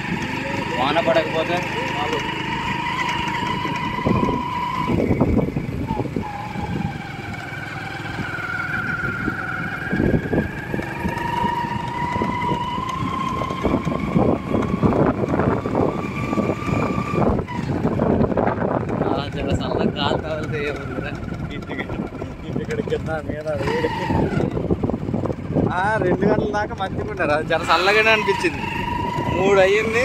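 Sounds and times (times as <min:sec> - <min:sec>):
uneven rumbling: 0:00.0 - 0:30.0
vehicle engine whine: 0:00.0 - 0:30.0.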